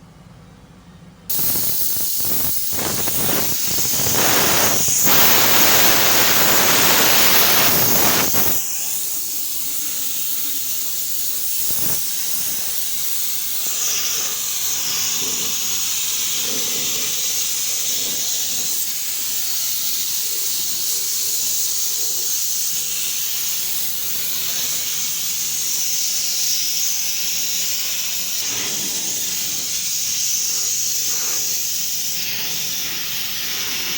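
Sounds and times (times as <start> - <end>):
spray paint hissing: 1.3 - 33.9.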